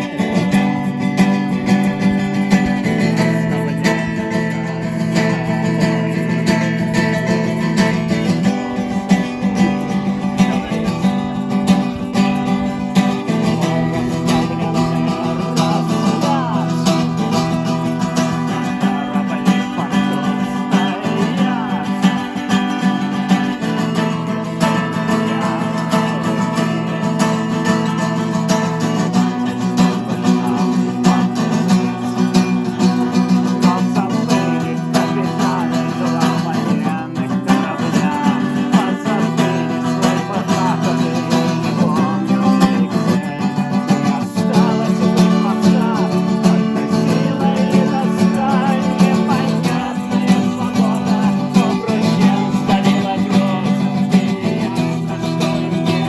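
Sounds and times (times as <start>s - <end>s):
acoustic guitar music: 0.0s - 56.0s.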